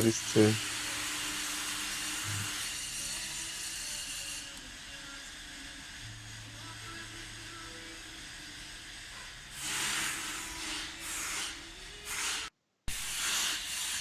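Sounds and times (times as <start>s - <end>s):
hissing surges: 0.0s - 14.0s.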